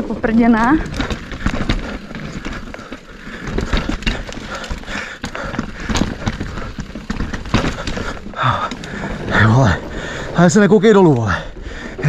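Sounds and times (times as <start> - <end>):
bike rattling and knocking: 0.0 - 12.0
bike tyres crunching over stones: 0.0 - 12.0.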